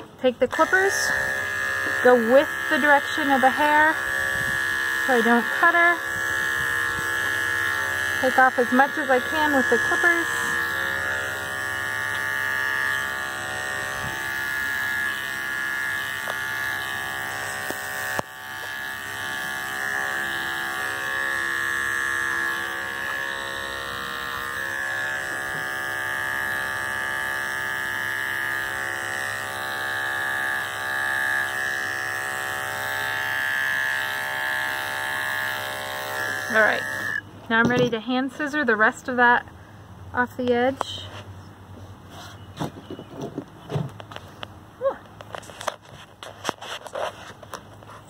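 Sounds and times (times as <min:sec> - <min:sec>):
electric clippers buzzing: 0:00.0 - 0:39.5.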